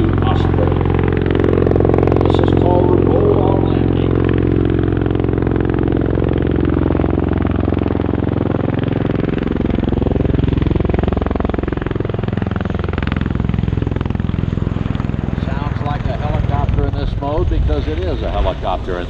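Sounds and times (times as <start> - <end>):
tiltrotor proprotors beating drone: 0.0 - 19.0.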